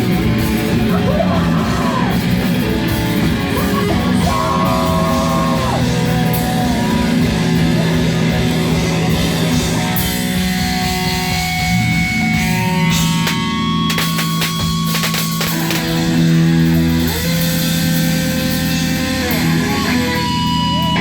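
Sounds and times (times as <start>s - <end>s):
heavy rock band playing: 0.0s - 21.0s.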